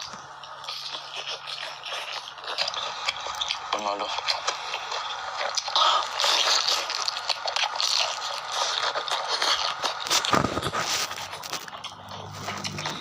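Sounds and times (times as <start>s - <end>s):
chewing and crunching: 0.0s - 13.0s.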